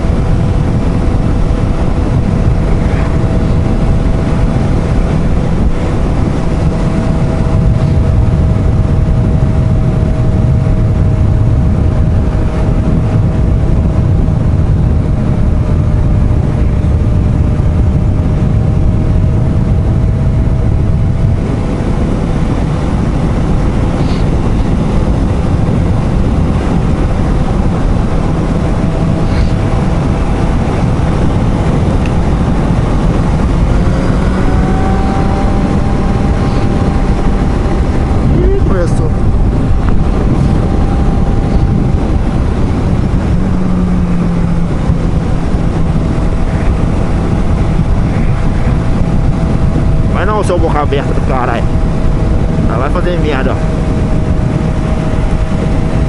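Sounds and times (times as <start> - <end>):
motorcycle engine drone: 0.0 - 56.0
wind rumble on microphone: 0.0 - 56.0.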